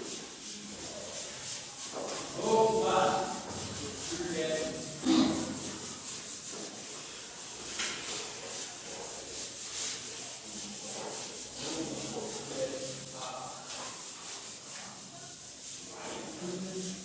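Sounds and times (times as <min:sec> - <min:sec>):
eraser rubbing on a blackboard: 0:00.0 - 0:17.0.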